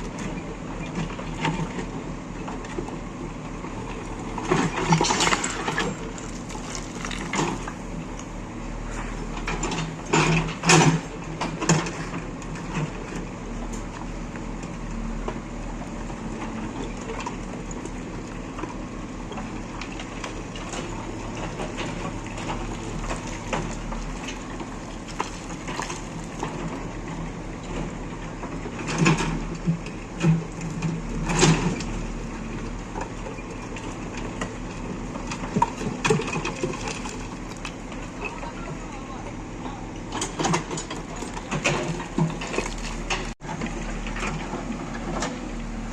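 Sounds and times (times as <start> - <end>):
loud clanking and crunching: 0.0 - 8.3, 8.9 - 14.1, 16.0 - 38.7, 40.0 - 45.9
heavy diesel engine running: 0.0 - 45.9.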